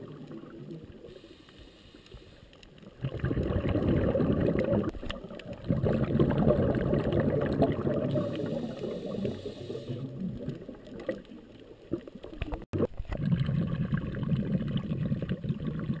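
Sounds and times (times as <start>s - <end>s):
underwater bubbling and gurgling: 0.0s - 16.0s.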